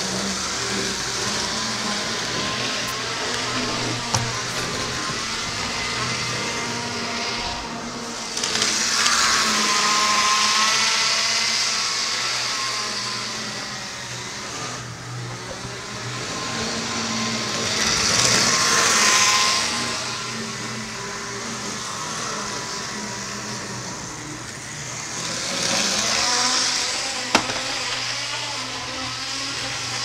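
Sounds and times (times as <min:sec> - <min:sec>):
model train motor whining: 0:00.0 - 0:30.0.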